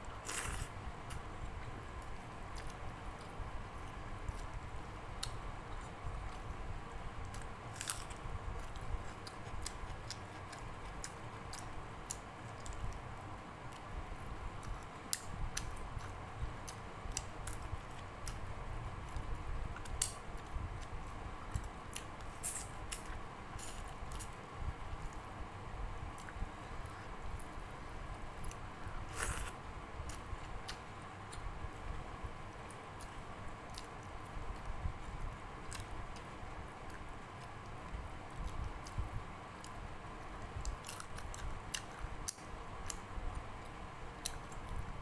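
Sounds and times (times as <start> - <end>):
person chewing with wet clicks: 1.9 - 13.1, 13.7 - 24.4, 28.3 - 31.5, 32.5 - 44.9.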